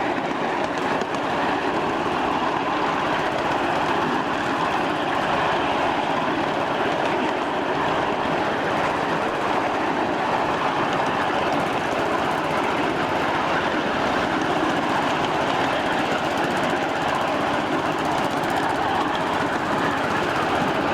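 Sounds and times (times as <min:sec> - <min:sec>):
train wheels rattling on rails: 0:00.0 - 0:20.9.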